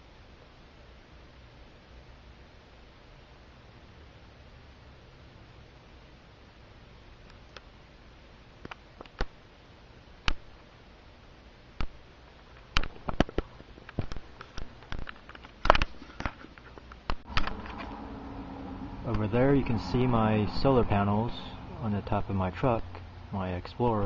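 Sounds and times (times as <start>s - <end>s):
faint low hum: 0.0s - 24.0s
steady hiss: 0.0s - 24.0s.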